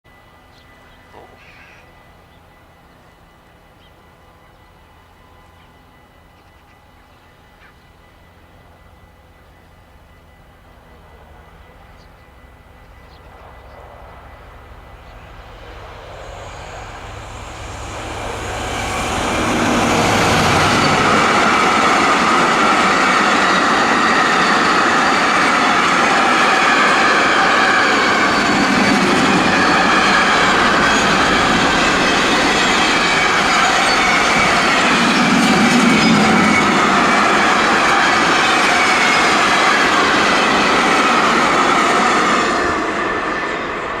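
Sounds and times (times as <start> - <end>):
diesel locomotive engine hum: 0.1 - 44.0
train wagons rolling past: 0.2 - 44.0.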